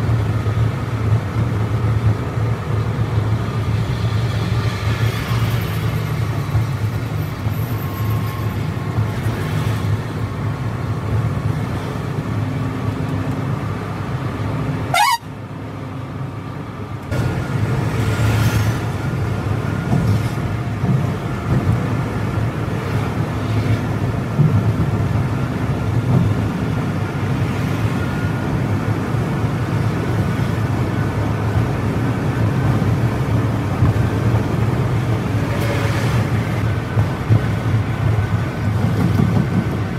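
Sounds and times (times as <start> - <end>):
coach engine drone: 0.0 - 39.9
road noise: 0.0 - 39.9.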